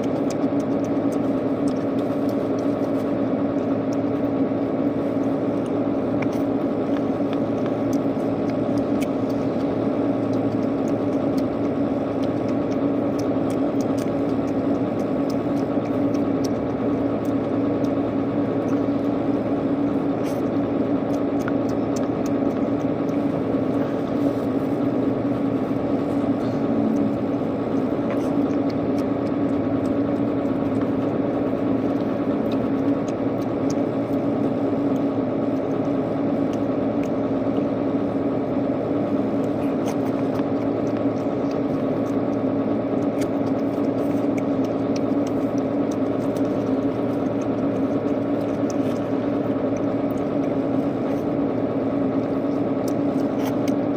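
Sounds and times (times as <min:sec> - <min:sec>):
chewing and eating: 0:00.0 - 0:53.9
machine hum: 0:00.0 - 0:53.9.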